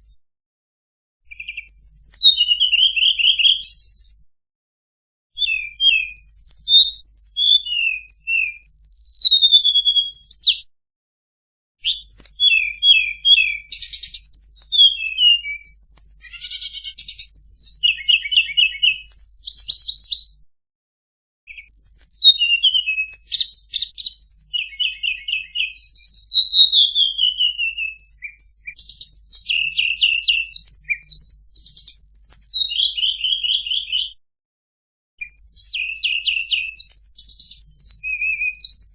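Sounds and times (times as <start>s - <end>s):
songbird chirping and trilling: 1.3s - 4.3s, 5.4s - 10.7s, 11.8s - 20.4s, 21.5s - 34.2s, 35.2s - 38.9s.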